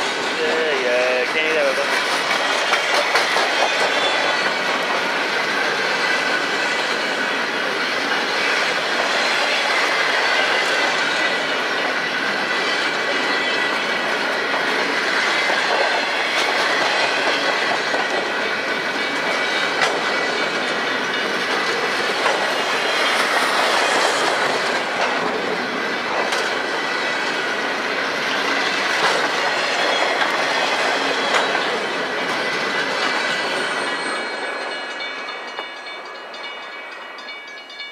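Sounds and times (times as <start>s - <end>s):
train wheels squealing on rail: 0.0s - 37.9s.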